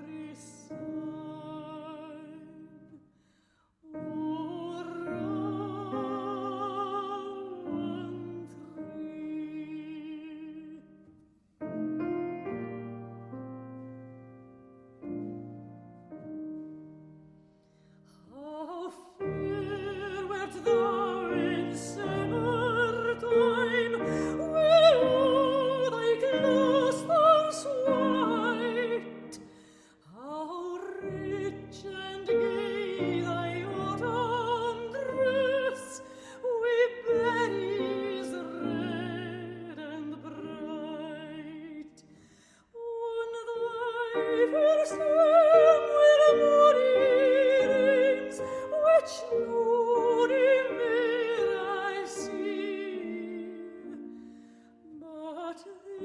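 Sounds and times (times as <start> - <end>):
piano accompaniment: 3.9 - 17.6, 18.7 - 41.9, 43.4 - 56.0.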